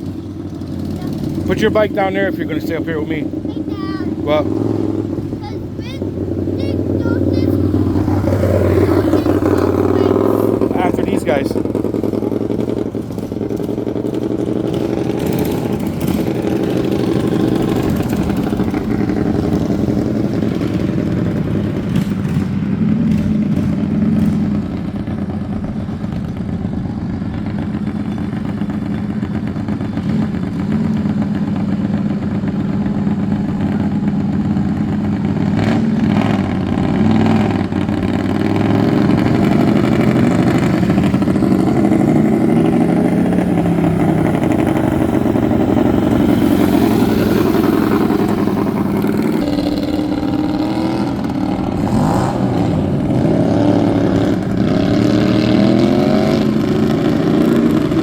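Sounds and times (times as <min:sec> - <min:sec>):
lawn mower engines revving: 0:00.0 - 0:58.0.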